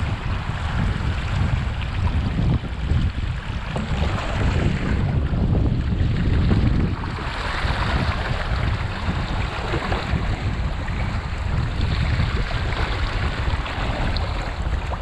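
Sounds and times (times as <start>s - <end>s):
water splashing along a hull: 0.0s - 15.0s
wind buffeting microphone: 0.0s - 15.0s.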